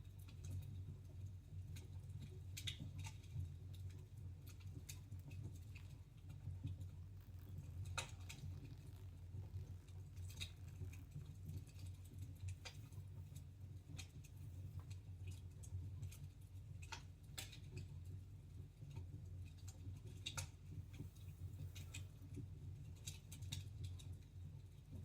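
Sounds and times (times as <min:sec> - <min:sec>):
steady low hum: 0:00.0 - 0:25.0
wood fire crackling: 0:00.0 - 0:25.0.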